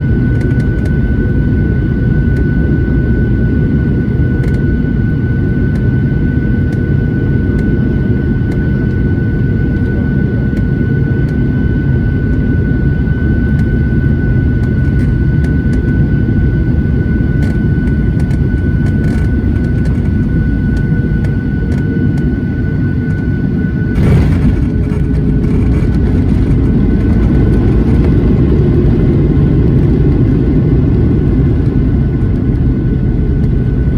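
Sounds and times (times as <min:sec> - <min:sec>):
steady high whine: 0:00.0 - 0:30.0
airliner cabin rumble: 0:00.0 - 0:33.9.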